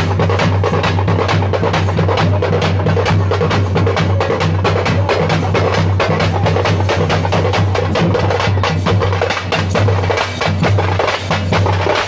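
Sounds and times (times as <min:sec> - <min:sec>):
large drums fast rhythm: 0:00.0 - 0:12.0.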